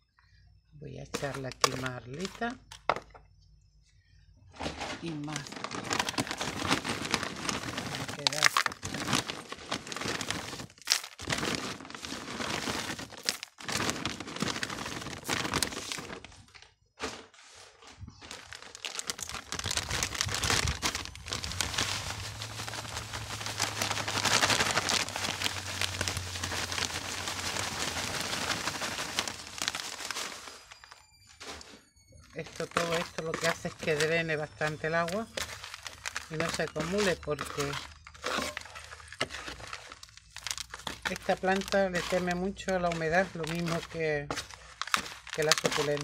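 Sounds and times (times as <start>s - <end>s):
clay pebbles poured crunching: 1.1s - 2.7s, 4.8s - 16.4s, 18.1s - 31.0s, 32.3s - 46.0s
plastic bag crinkling: 1.1s - 3.0s, 4.6s - 17.2s, 17.8s - 46.0s.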